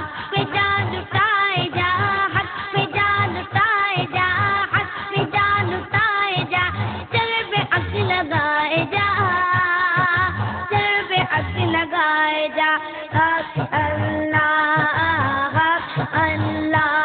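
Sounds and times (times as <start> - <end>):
low repeating beat: 0.0 - 12.0, 13.1 - 17.0
child singing devotional song: 0.0 - 17.0.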